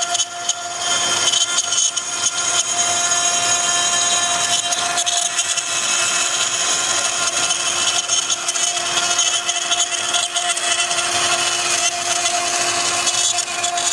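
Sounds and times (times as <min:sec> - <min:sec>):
router cutting wood hiss: 0:00.0 - 0:13.9
router spindle whining: 0:00.0 - 0:13.9.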